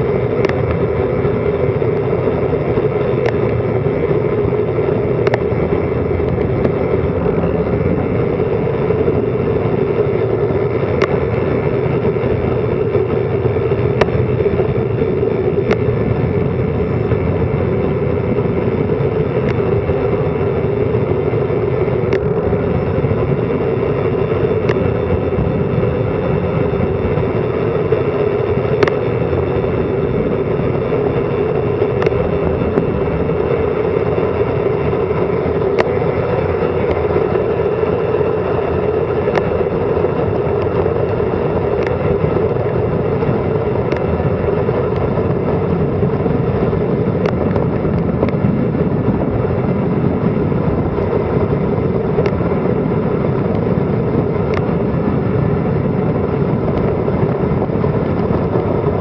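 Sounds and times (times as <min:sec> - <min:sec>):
sharp ticks from road bumps: 0:00.0 - 0:59.0
wind and road noise: 0:00.0 - 0:59.0.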